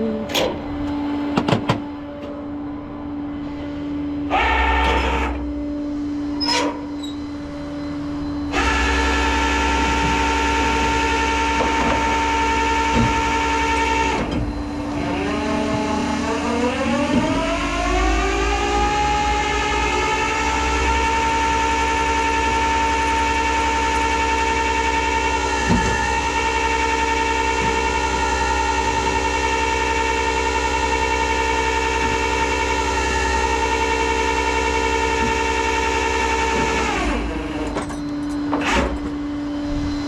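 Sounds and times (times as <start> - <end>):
hydraulic pump whine: 0.0 - 40.0
truck engine: 0.0 - 40.0.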